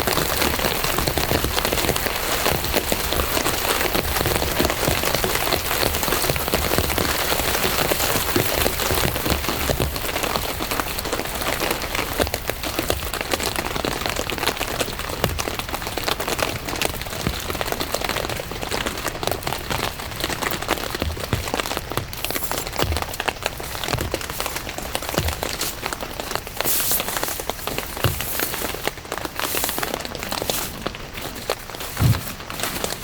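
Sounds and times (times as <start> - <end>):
raindrops ticking on a surface: 0.0 - 33.0
steady rain falling: 0.0 - 33.0.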